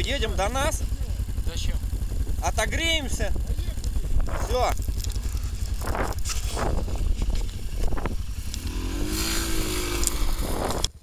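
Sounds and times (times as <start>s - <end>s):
small vehicle engine running: 0.0s - 11.0s
wind rumble on microphone: 0.3s - 11.0s.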